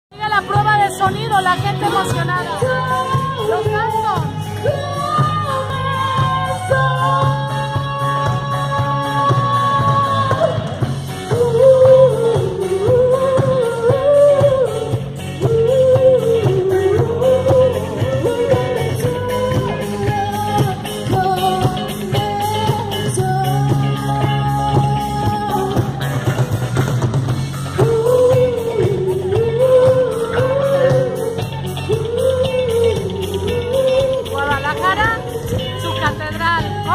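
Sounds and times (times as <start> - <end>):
woman singing: 0.1 - 26.4, 27.6 - 36.9
bass guitar: 0.1 - 36.9
drum kit beating: 0.1 - 36.9
electric guitars: 0.1 - 36.9.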